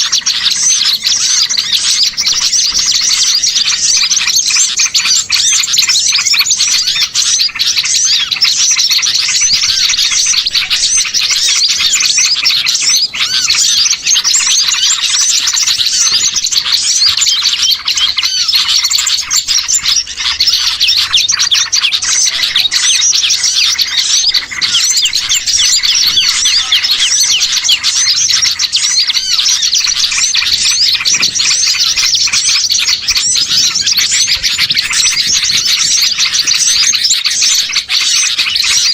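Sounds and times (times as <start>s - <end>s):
songbirds chirping chorus: 0.0s - 38.9s.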